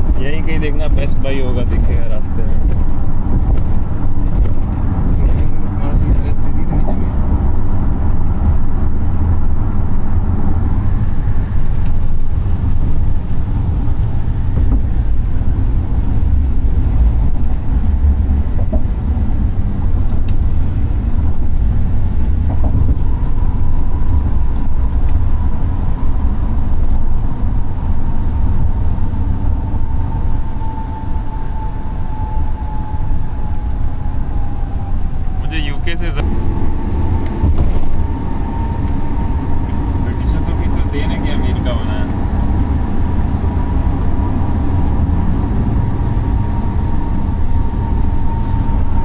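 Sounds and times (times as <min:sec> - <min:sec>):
road and engine rumble: 0:00.0 - 0:49.0.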